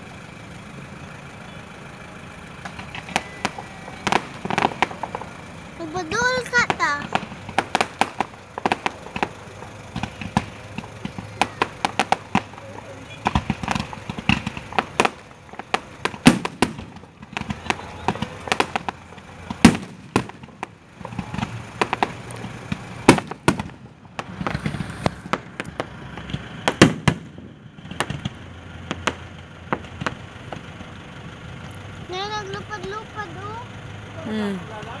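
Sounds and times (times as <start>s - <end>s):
fireworks bangs and crackles: 0.0s - 31.7s
fireworks booms: 2.6s - 30.8s.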